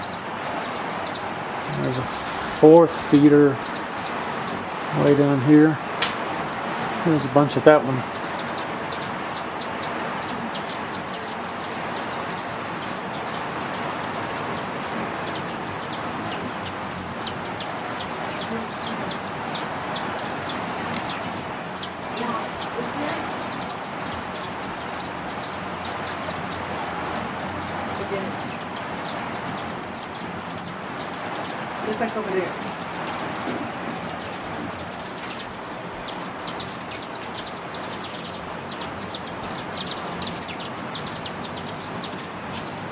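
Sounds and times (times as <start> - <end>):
hummingbird wings whining: 0.0 - 42.9.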